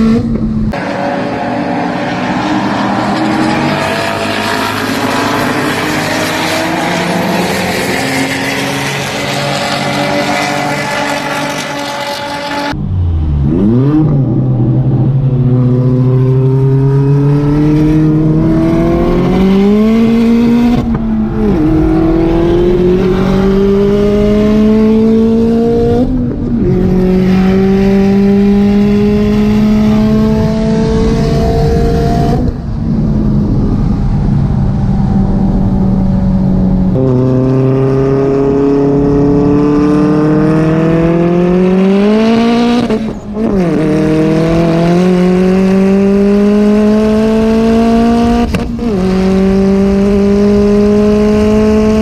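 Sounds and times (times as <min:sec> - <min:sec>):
car engine accelerating hard: 0:00.0 - 0:52.0.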